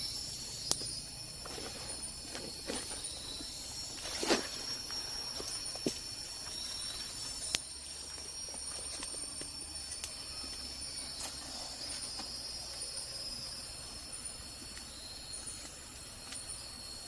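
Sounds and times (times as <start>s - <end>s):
high-pitched insect calls: 0.0s - 17.0s.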